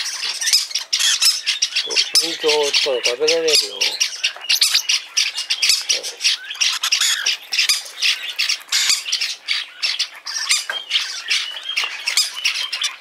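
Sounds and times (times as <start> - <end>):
bird chicks begging squawks: 0.0 - 13.0.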